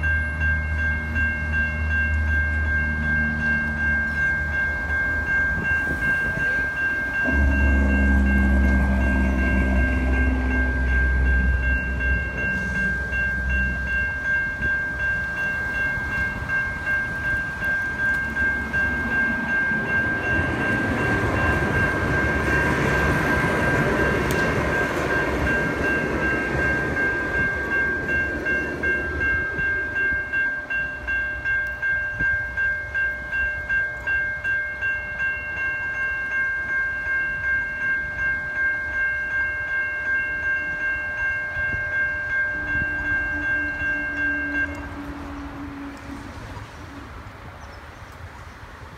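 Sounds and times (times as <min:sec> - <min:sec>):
level crossing bells ringing: 0:00.0 - 0:46.2
passing train rumble: 0:00.0 - 0:48.9.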